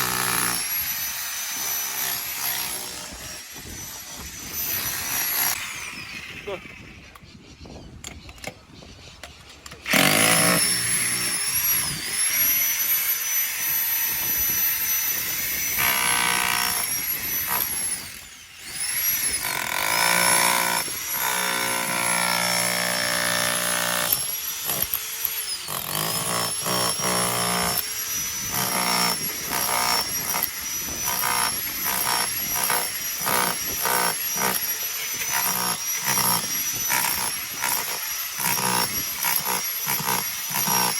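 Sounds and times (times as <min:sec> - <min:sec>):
jackhammer hammering: 0:00.0 - 0:03.3, 0:04.6 - 0:05.6, 0:09.9 - 0:14.7, 0:15.6 - 0:40.9.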